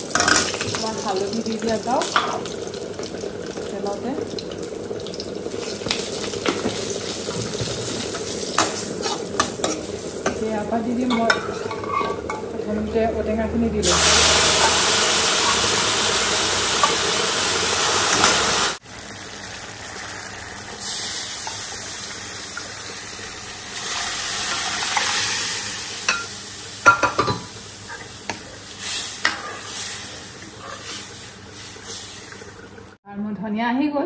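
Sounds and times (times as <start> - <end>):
food sizzling in hot oil: 0.0 - 12.6, 13.8 - 33.0.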